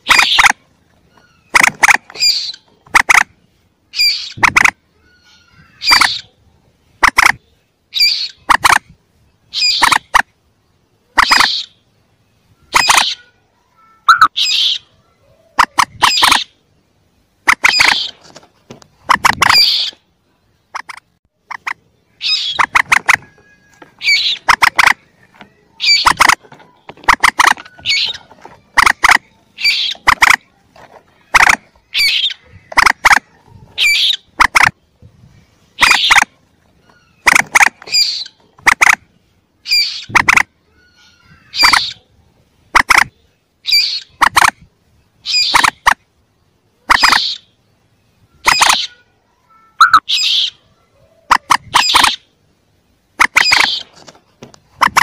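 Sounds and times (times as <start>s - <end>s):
moorhen calls: 0.0s - 3.3s, 3.9s - 6.4s, 7.0s - 10.3s, 11.0s - 16.7s, 17.4s - 18.3s, 19.0s - 34.8s, 35.6s - 39.0s, 39.6s - 44.6s, 45.2s - 46.0s, 46.8s - 49.1s, 49.7s - 52.4s, 53.2s - 54.0s.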